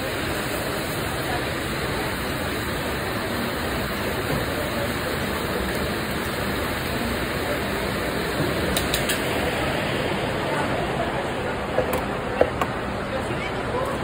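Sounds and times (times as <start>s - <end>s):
exhaust hood fan rushing: 0.0s - 14.0s.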